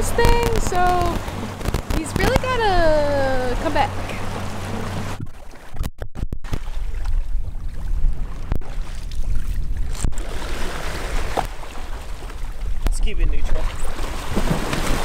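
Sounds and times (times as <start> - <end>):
wind buffeting microphone: 0.0 - 5.2, 6.4 - 15.0
choppy sea water splashing: 0.0 - 15.0.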